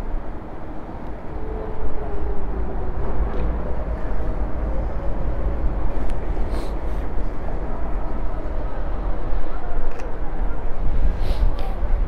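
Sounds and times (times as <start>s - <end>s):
faint city background noise: 0.0s - 12.0s
wind buffeting microphone: 0.0s - 12.0s.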